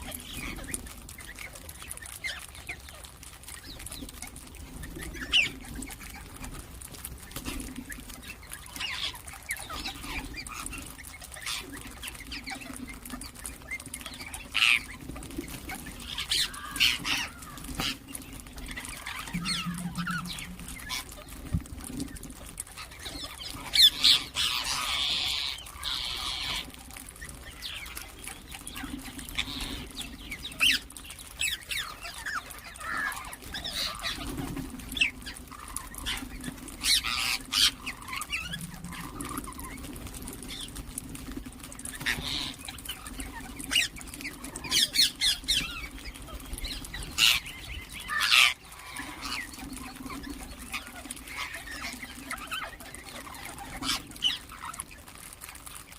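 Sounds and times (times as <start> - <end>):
parakeets squawking and chirping: 0.0 - 55.9.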